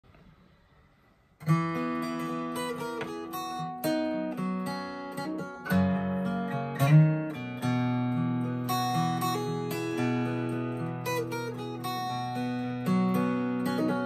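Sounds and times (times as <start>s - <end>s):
fingerpicked acoustic guitar: 0.2s - 14.0s.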